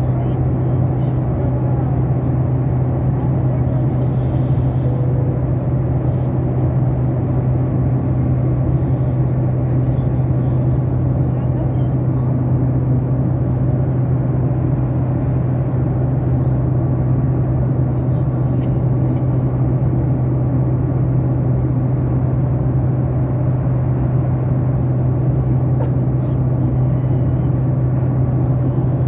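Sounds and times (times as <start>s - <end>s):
airliner engine and airflow drone: 0.0s - 29.0s.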